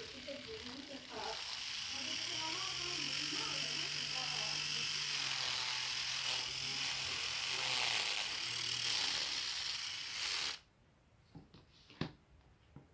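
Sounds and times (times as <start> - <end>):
small electric motor whirring: 0.0 - 10.6.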